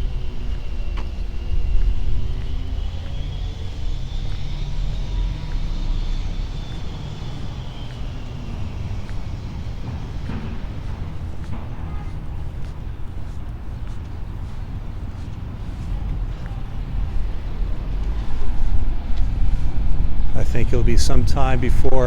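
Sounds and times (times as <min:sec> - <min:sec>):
motor traffic rumble: 0:00.0 - 0:22.0.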